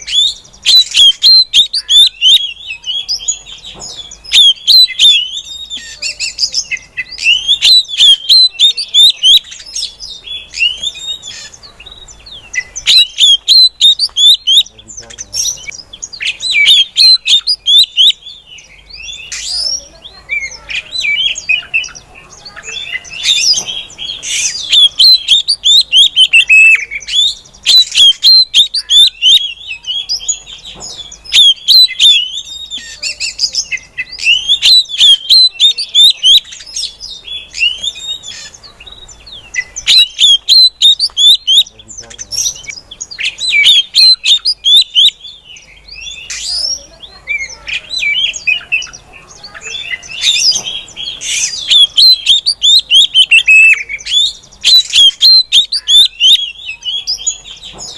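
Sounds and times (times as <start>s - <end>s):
bird chirping and squawking: 0.0s - 57.9s.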